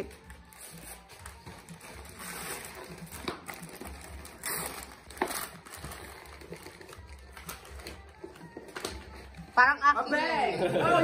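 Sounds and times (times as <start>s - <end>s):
wrapping paper rustling: 0.0s - 9.4s.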